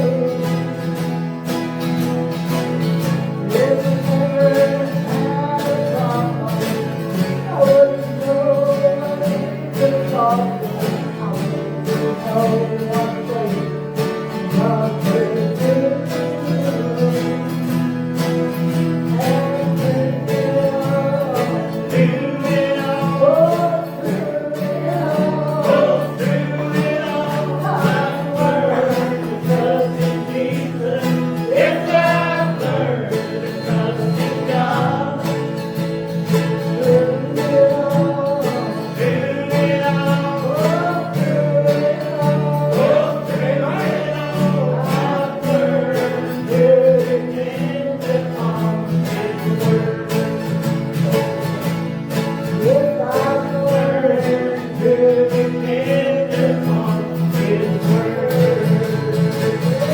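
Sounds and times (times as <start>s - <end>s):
person singing gospel song: 0.0s - 1.0s, 2.8s - 17.8s, 18.8s - 51.4s, 52.2s - 59.9s
strummed acoustic guitar: 0.0s - 59.9s.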